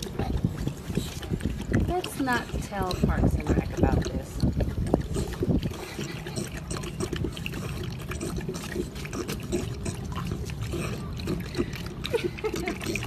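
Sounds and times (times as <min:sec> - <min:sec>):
dog lapping water: 0:00.0 - 0:13.0
water trickling: 0:00.0 - 0:13.0.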